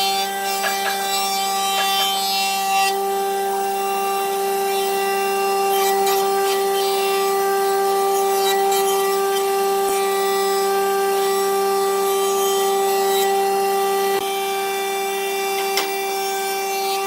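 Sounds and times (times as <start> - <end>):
power tool working wood: 0.0 - 17.0.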